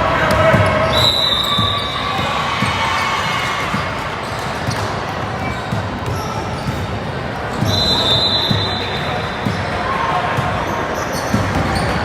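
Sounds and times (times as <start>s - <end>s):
murmur of gym: 0.0s - 12.0s
basketball bouncing on gym floor: 0.3s - 3.0s, 3.6s - 9.8s, 11.2s - 12.0s.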